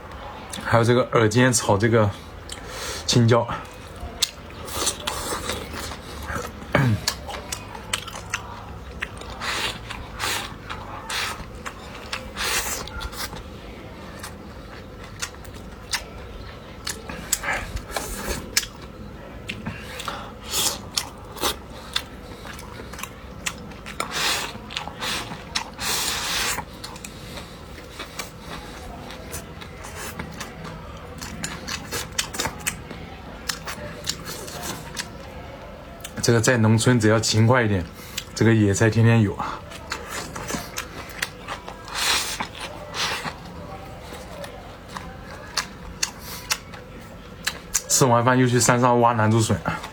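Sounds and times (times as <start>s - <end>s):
person chewing: 2.2s - 35.3s, 37.8s - 38.4s, 39.4s - 47.9s.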